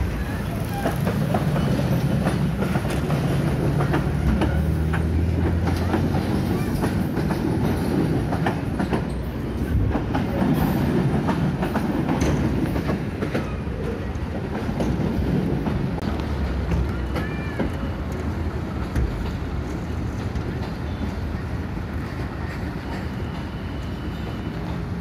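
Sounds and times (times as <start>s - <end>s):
train carriages rumbling: 0.0s - 25.0s
wheels clacking over rails: 0.0s - 25.0s.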